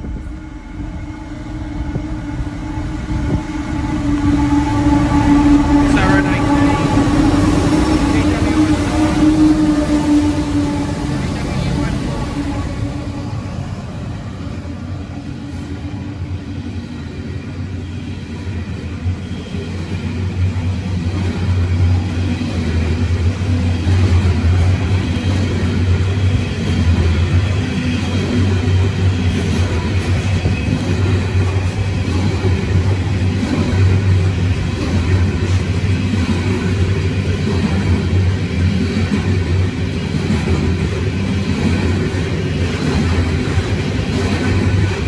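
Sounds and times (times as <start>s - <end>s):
freight train wheels rumbling on rail: 0.0s - 45.0s.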